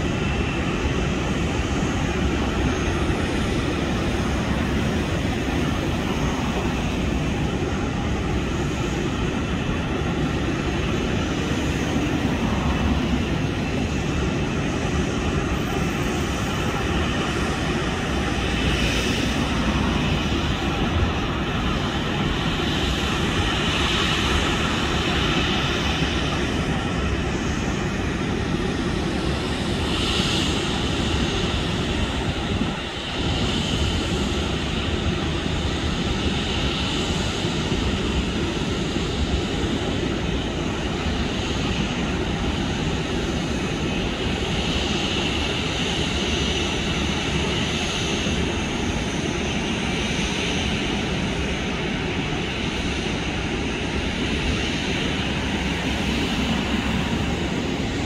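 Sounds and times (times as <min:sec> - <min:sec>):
jet aircraft rumble and whine: 0:00.0 - 0:58.0.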